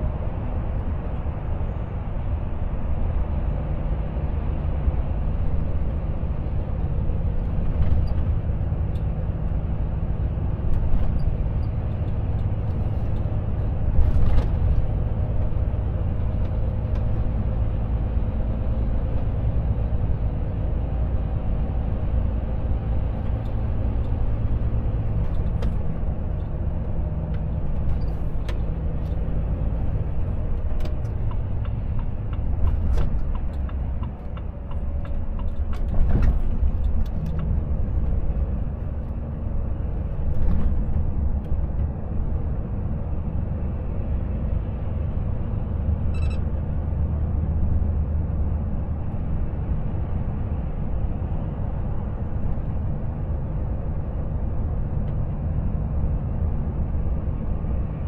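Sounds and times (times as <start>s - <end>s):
road and tyre rumble: 0.0s - 58.0s.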